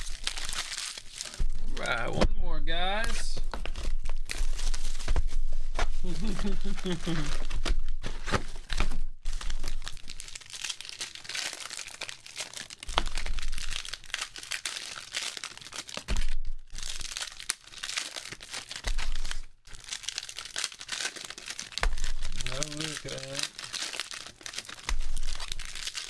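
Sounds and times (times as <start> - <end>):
foil wrappers crinkling and tearing: 0.0 - 2.1, 3.0 - 26.0.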